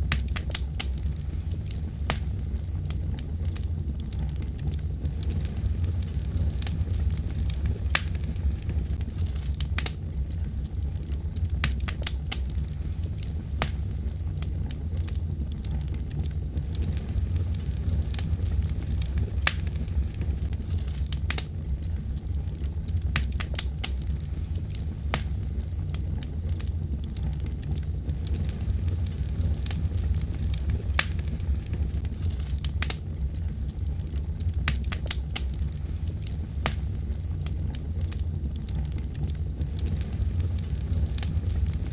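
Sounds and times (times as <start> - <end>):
crackles and pops of burning wood: 0.0 - 41.9
wood fire burning: 0.0 - 41.9.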